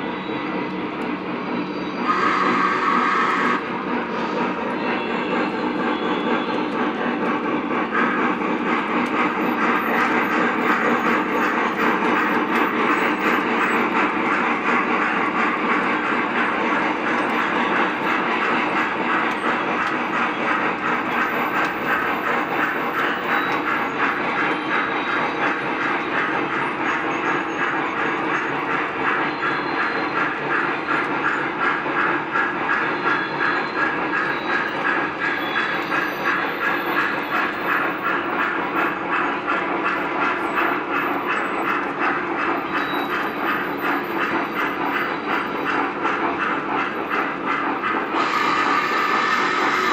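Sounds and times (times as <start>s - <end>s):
model trains rumbling on track: 0.0s - 49.9s.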